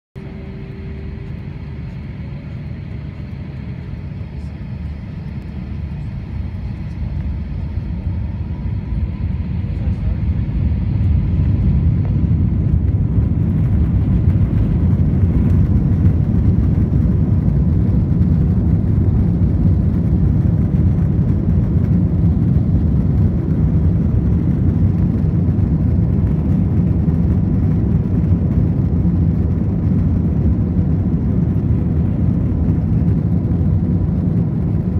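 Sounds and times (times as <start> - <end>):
jet engine cabin rumble: 0.2 - 34.9.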